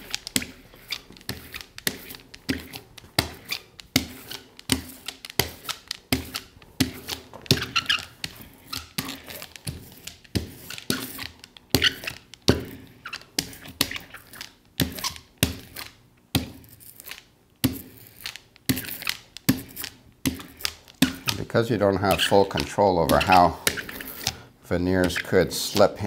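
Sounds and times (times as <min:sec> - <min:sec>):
glue roller rolling through glue: 0:00.0 - 0:26.0.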